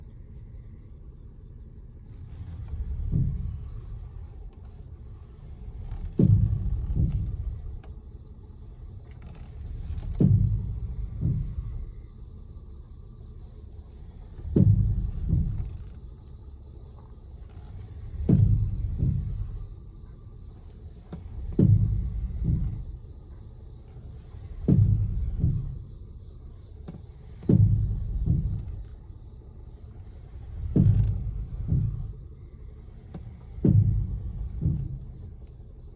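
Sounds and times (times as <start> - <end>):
low rumble: 0.0 - 35.9
low double clunks: 2.6 - 4.7, 5.7 - 8.0, 8.9 - 12.6, 14.2 - 35.9.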